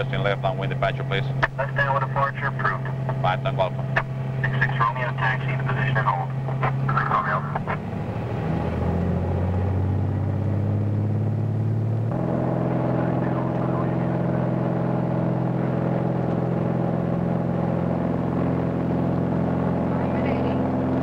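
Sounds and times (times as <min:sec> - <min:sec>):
propeller airplane engine droning: 0:00.0 - 0:21.0.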